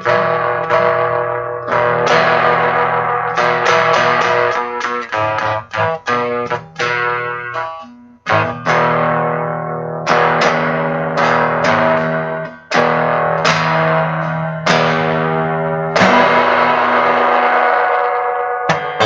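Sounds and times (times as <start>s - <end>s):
guitar chords: 0.0s - 19.0s.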